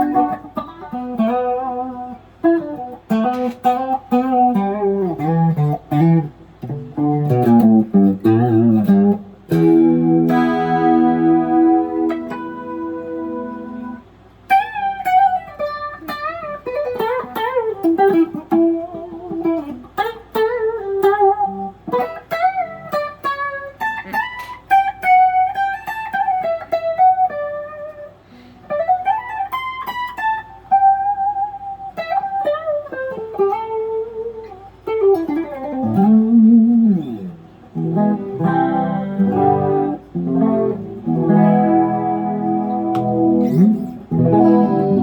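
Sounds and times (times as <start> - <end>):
clean electric guitar melody: 0.0 - 45.0.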